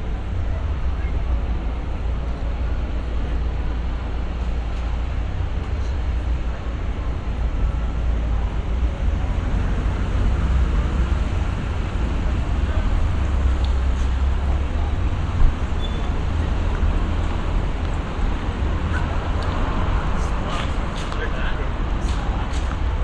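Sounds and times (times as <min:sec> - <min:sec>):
low traffic rumble: 0:00.0 - 0:23.0
street noise: 0:00.0 - 0:23.0.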